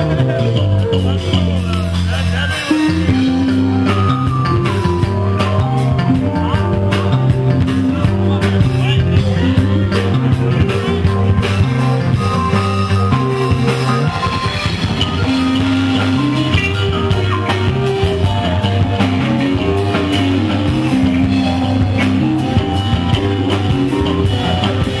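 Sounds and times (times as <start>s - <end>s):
drum kit: 0.0s - 25.0s
electric guitar: 0.0s - 25.0s.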